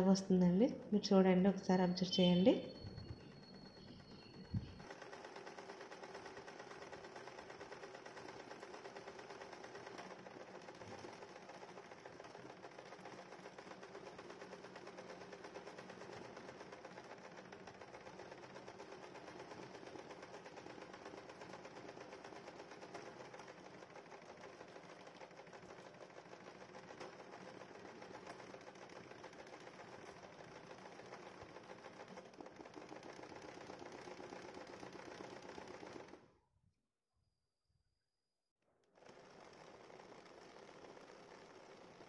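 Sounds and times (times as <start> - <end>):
sewing machine running: 0.0 - 36.4, 38.8 - 42.0.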